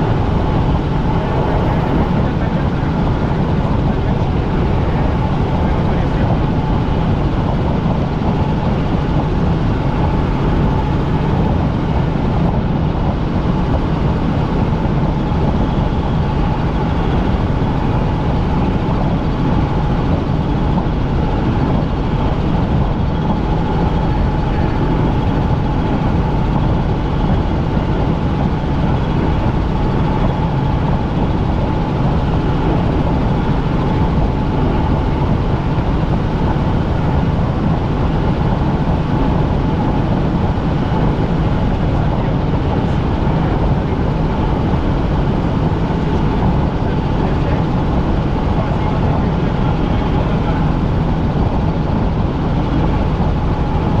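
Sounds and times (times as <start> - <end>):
constant whine: 0.0 - 54.0
helicopter engine and rotor noise: 0.0 - 54.0.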